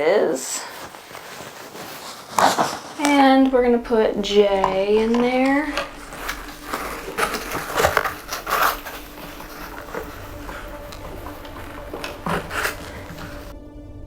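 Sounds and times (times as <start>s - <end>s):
plastic rustling: 0.0s - 13.6s
plastic parts knocking: 1.9s - 13.5s.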